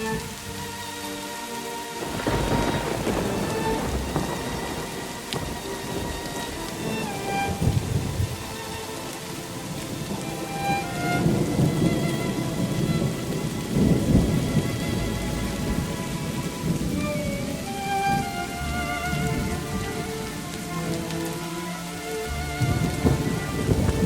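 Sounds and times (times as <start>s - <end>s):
heavy rain: 0.0s - 24.0s
soft background music: 0.0s - 24.0s
thunder rumbling: 2.0s - 24.0s.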